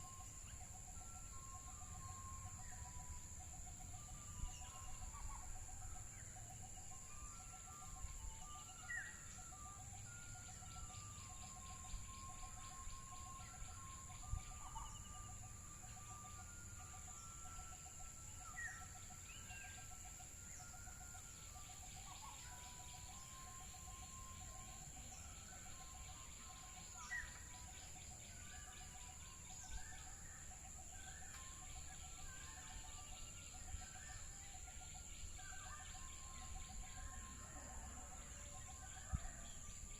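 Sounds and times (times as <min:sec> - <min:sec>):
birds chirping and whistling: 0:00.0 - 0:39.9
steady high-pitched hum: 0:00.0 - 0:39.9.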